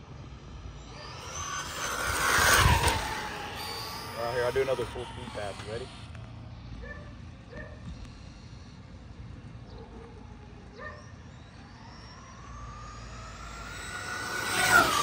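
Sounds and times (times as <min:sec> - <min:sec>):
rc truck motor whine: 0:00.0 - 0:15.0.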